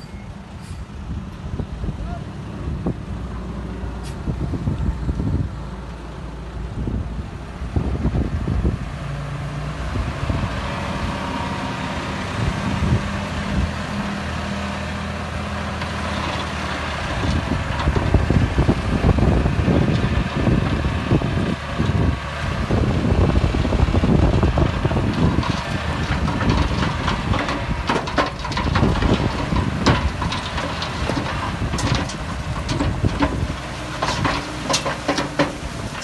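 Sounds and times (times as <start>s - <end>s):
heavy machinery diesel engine: 0.0s - 36.0s.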